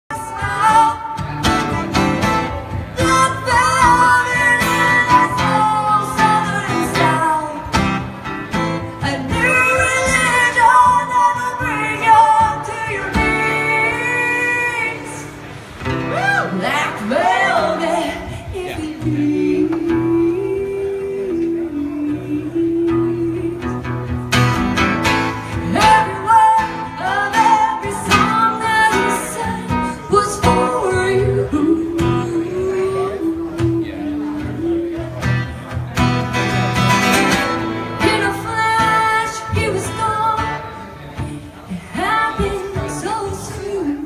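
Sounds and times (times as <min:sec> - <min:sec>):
woman singing: 0:00.1 - 0:01.3, 0:03.0 - 0:07.8, 0:08.9 - 0:15.4, 0:16.1 - 0:23.9, 0:25.5 - 0:35.4, 0:37.8 - 0:44.0
acoustic guitar strumming: 0:00.1 - 0:44.0.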